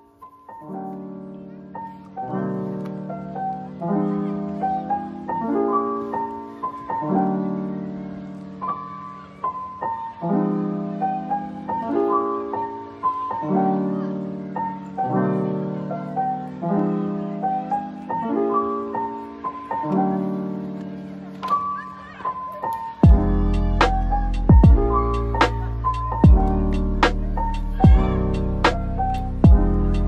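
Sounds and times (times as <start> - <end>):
piano chords: 0.0 - 30.0.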